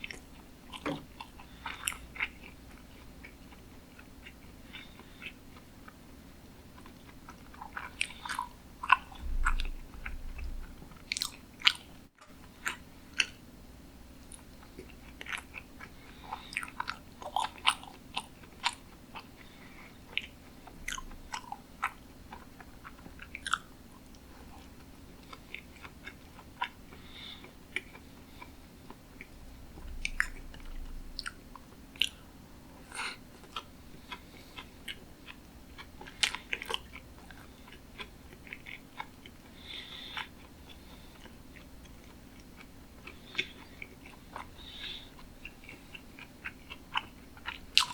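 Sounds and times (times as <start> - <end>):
close chewing and mouth sounds: 0.0 - 47.9.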